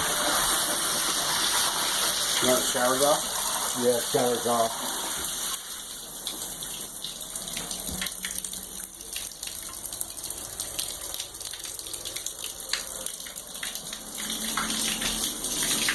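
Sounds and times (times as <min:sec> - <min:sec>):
water pouring into a tub: 0:00.0 - 0:15.9.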